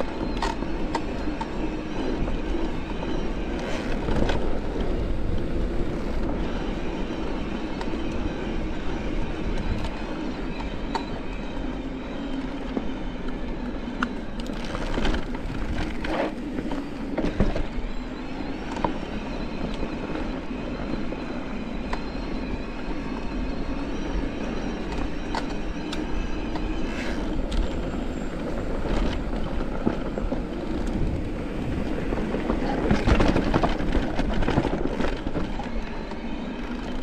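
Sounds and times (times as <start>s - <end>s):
bike rattling over bumps: 0.0s - 37.0s
bike tyres on dirt trail: 0.0s - 37.0s.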